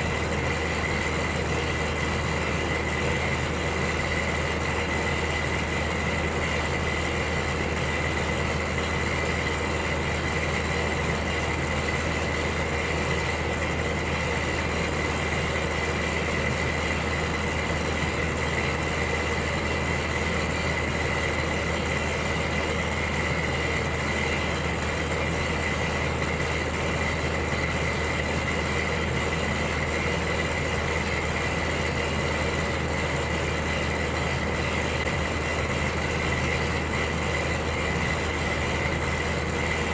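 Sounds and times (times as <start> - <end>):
electric heater humming: 0.0 - 39.9.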